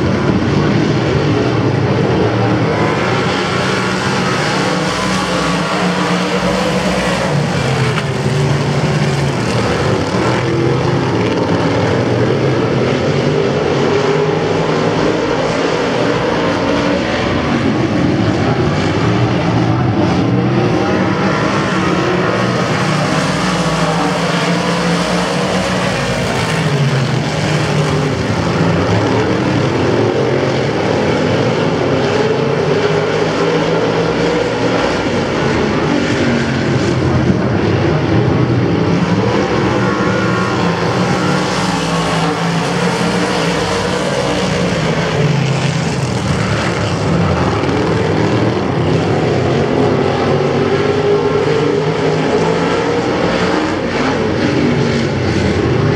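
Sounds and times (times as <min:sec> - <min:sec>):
racing car engines: 0:00.0 - 0:55.9.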